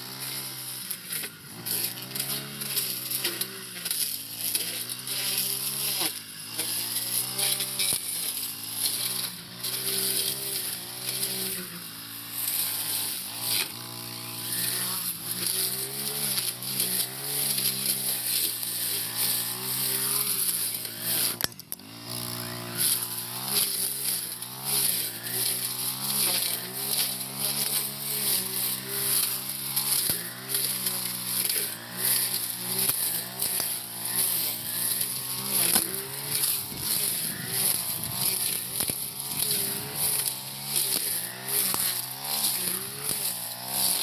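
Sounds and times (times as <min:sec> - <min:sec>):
brush cutter engine revving: 0:00.0 - 0:44.0.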